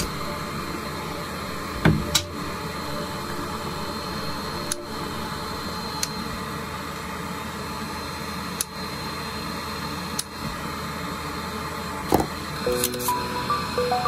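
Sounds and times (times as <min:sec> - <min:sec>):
mechanical hum and hiss: 0:00.0 - 0:14.0.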